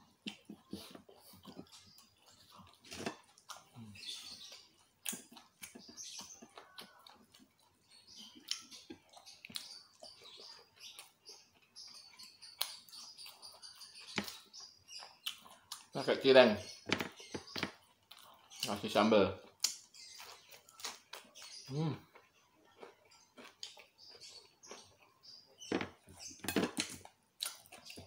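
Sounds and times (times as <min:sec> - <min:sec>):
chewing: 0:00.0 - 0:16.0, 0:16.7 - 0:18.7, 0:19.4 - 0:28.0.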